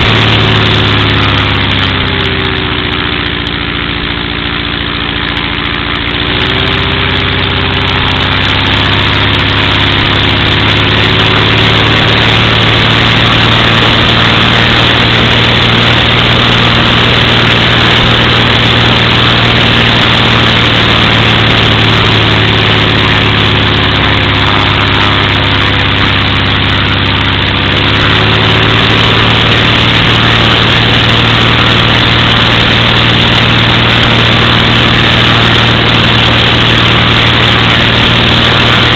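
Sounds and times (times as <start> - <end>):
propeller aircraft engine running: 0.0 - 38.9.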